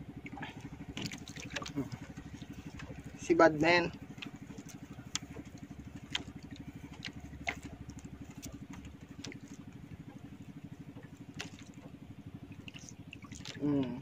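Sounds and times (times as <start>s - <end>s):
small boat engine chugging: 0.0s - 14.0s.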